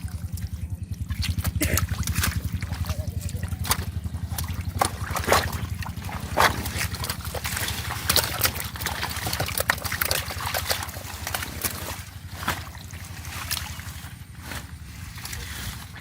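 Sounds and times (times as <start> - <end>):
low pulsing motor hum: 0.0 - 16.0
water splashing and sloshing: 0.0 - 16.0.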